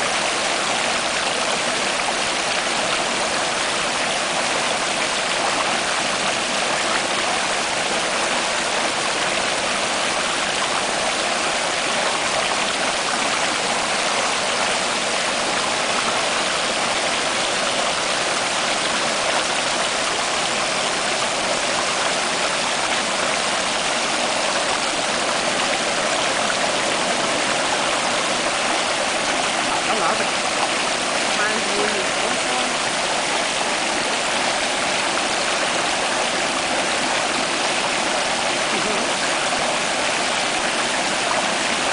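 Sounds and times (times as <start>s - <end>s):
waterfall splashing over rocks: 0.0s - 41.9s.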